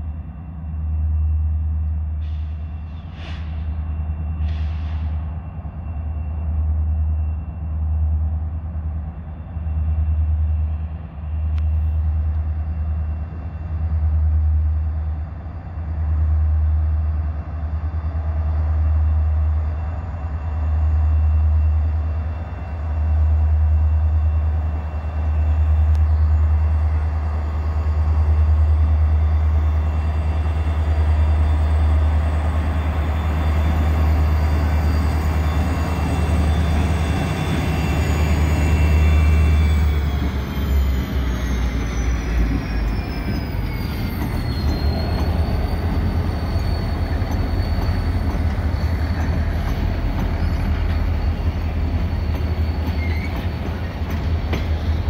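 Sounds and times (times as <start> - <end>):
diesel locomotive engine throb: 0.0 - 55.0.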